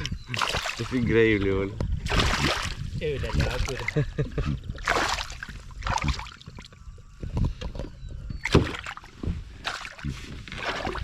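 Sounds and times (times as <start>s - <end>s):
water splashing against boat: 0.0s - 6.8s, 7.4s - 11.0s.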